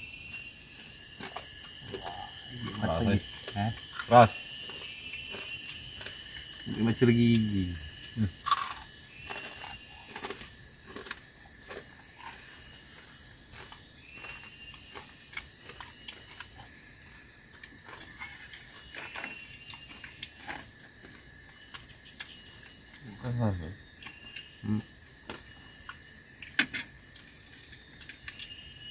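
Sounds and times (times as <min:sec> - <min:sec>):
insects shrilling: 0:00.0 - 0:28.9.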